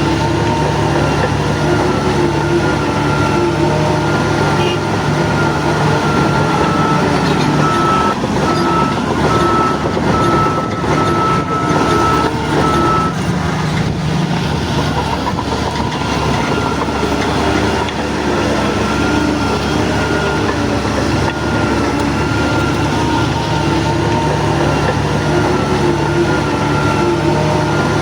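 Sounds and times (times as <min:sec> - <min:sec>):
diesel engine under load: 0:00.0 - 0:28.0
steel tracks clattering: 0:00.0 - 0:28.0.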